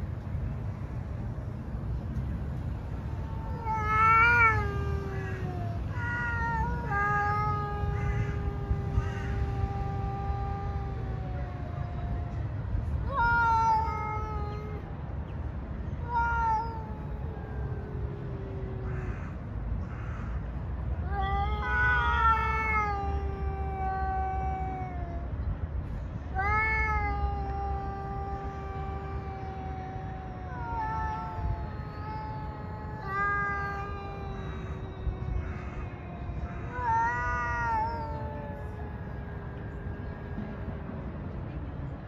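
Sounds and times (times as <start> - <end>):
cats yowling: 3.0 - 15.1, 15.8 - 25.5, 26.2 - 40.4.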